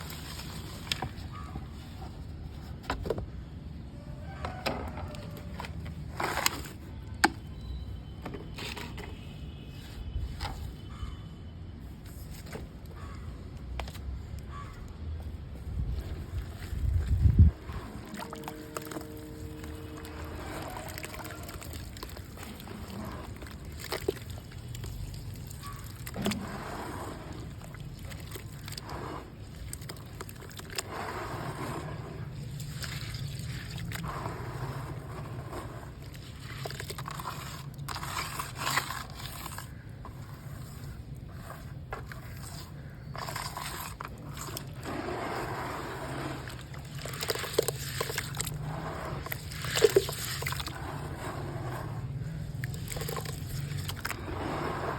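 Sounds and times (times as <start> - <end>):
mud crunching and squelching: 0.0 - 11.1, 11.8 - 54.9.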